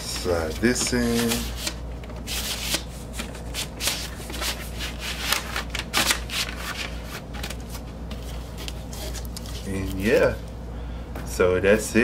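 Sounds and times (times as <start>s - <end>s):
paper sleeve rustling: 0.1s - 10.4s.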